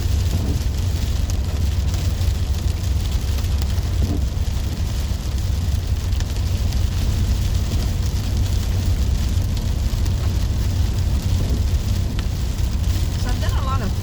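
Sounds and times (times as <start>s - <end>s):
rain and wet tyres hissing: 0.0s - 14.0s
van engine and road rumble: 0.0s - 14.0s.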